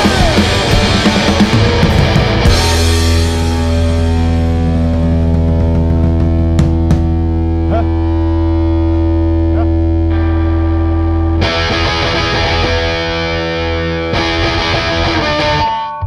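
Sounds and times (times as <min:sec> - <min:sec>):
distorted electric guitar chord: 0:00.0 - 0:16.0
noisy rock band wash: 0:00.0 - 0:16.0.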